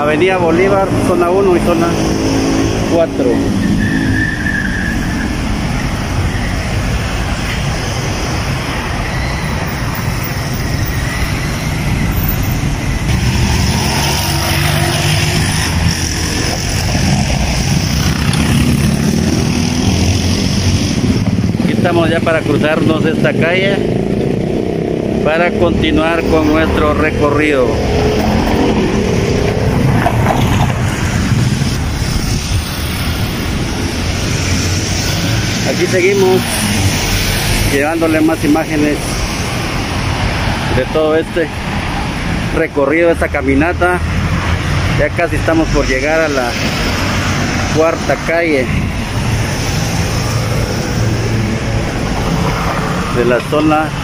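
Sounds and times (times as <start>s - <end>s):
cars and motorcycles passing: 0.0s - 54.0s
traffic driving past: 0.0s - 54.0s.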